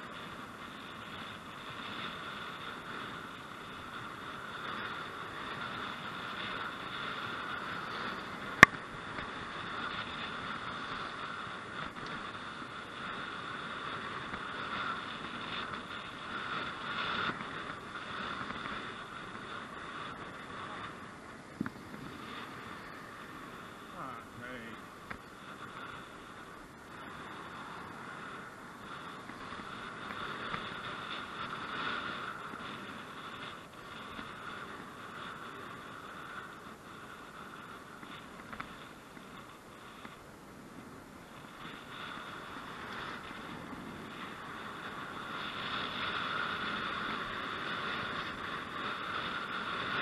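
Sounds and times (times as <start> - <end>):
wind and road noise hiss: 0.0 - 50.0.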